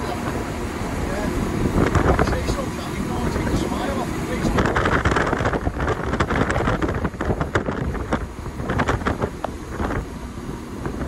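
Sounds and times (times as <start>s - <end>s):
motorboat engine rumble: 0.0s - 11.0s
water along hull: 0.0s - 11.0s
wind buffeting microphone: 0.0s - 11.0s.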